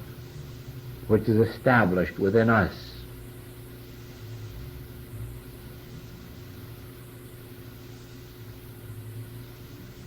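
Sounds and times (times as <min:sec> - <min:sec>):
faint hum: 0:00.0 - 0:10.0
tape hiss: 0:00.0 - 0:10.0.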